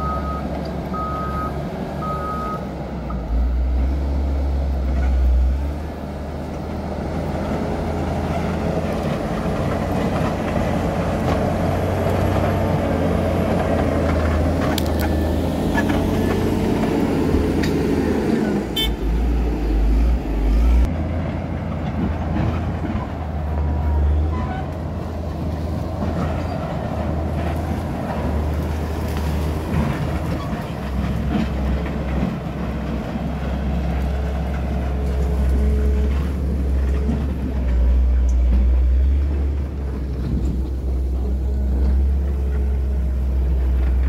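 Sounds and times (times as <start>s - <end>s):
motor grader diesel engine: 0.0s - 44.0s.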